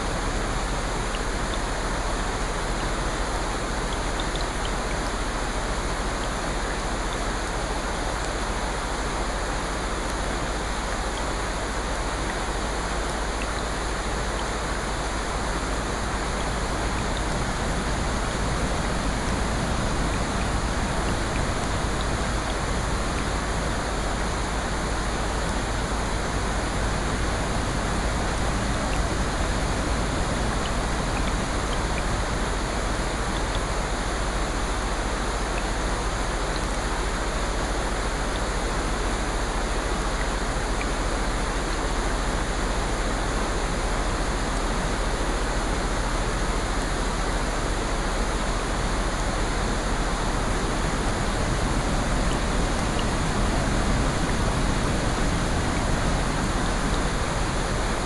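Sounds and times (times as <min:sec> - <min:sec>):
rain hissing: 0:00.0 - 0:58.0.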